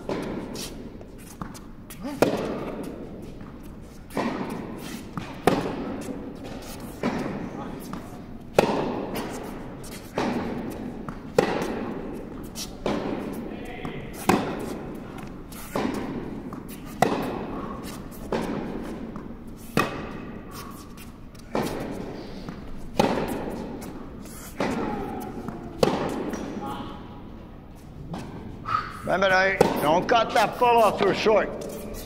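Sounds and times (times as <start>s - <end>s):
tennis ball hit with rackets: 0.0s - 26.7s, 29.5s - 32.0s.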